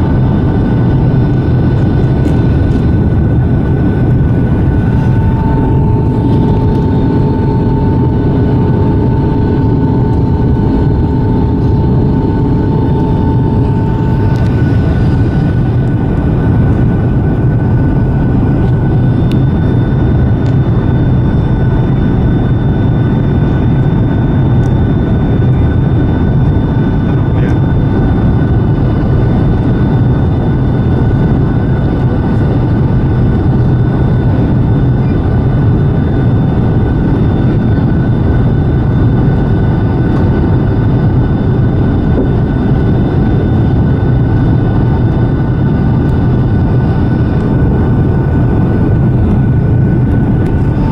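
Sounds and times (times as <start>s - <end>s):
aircraft cabin engine rumble: 0.0s - 50.9s
faint steady whine: 0.0s - 50.9s.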